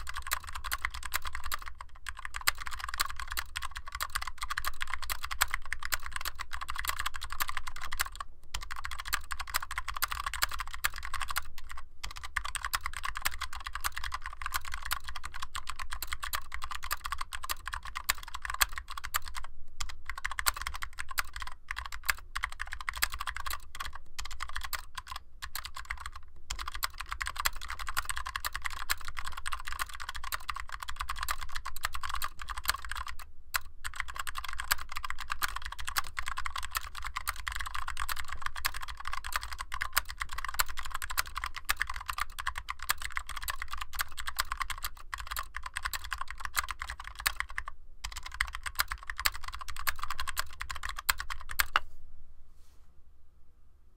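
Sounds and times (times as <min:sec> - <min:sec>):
mechanical keyboard typing: 0:00.0 - 0:51.8.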